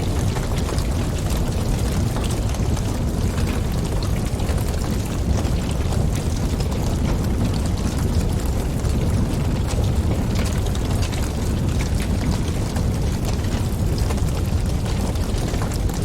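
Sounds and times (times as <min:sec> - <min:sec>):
wood fire roaring and crackling: 0:00.0 - 0:16.0.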